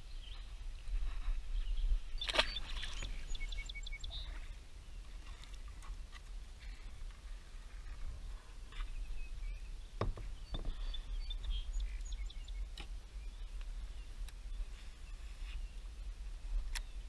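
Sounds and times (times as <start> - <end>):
small birds chirping: 0.0 - 5.6, 8.7 - 17.0.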